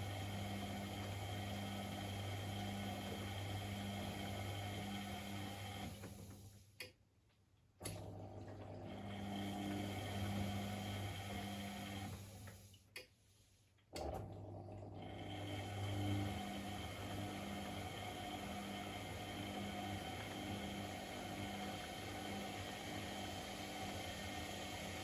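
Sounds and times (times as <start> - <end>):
washing machine motor hum: 0.0 - 6.8, 7.8 - 13.0, 13.9 - 25.0.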